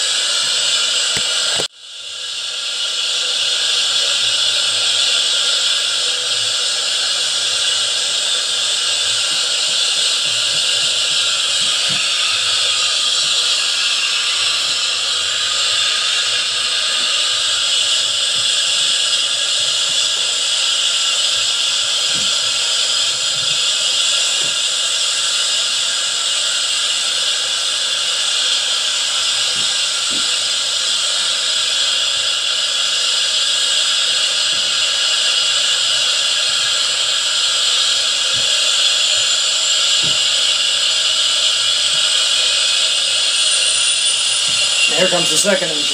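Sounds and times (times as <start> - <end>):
jet engine whine through small speakers: 0.0 - 45.9.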